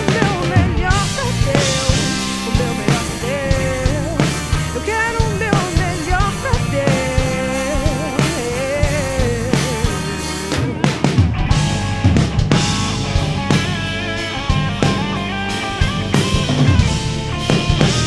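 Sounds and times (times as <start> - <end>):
band playing pop-rock song: 0.0 - 18.0.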